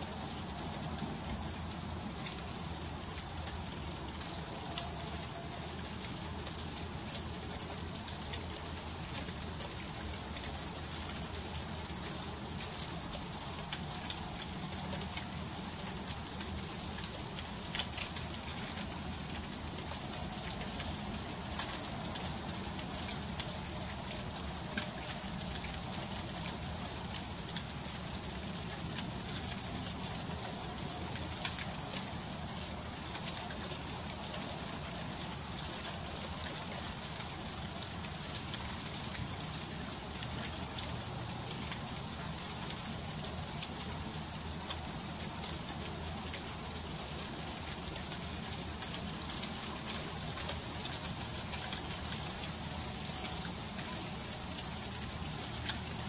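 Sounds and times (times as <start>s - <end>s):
freezing rain ticking on ice: 0.0s - 56.0s.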